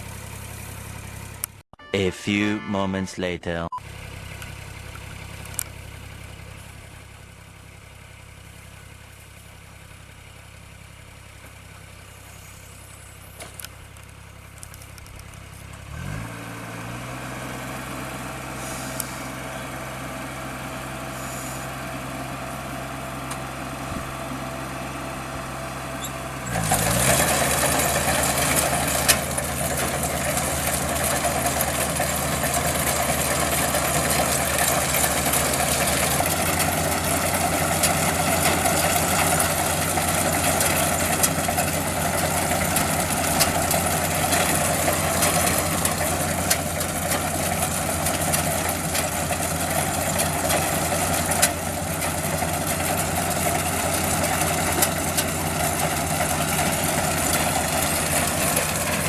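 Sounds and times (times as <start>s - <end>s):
diesel engine running: 3.2s - 59.0s.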